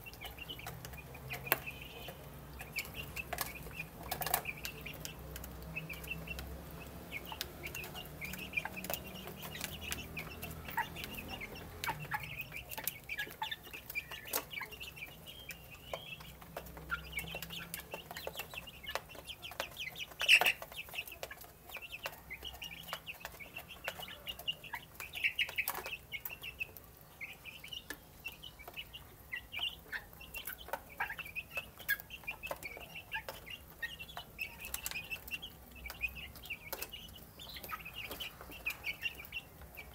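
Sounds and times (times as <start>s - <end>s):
beaks pecking: 0.0s - 39.9s
chicks cheeping: 0.0s - 39.9s.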